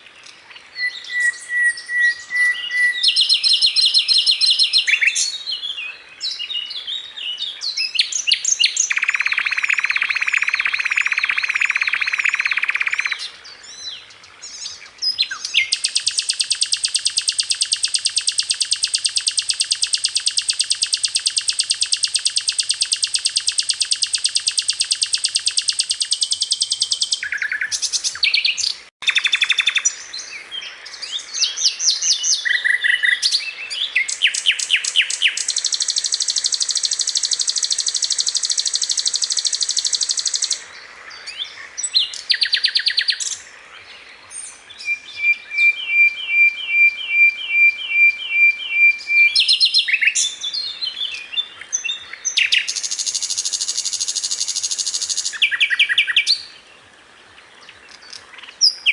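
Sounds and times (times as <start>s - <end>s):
songbird trills and whistles: 0.0s - 43.5s, 44.3s - 56.6s, 57.9s - 58.9s.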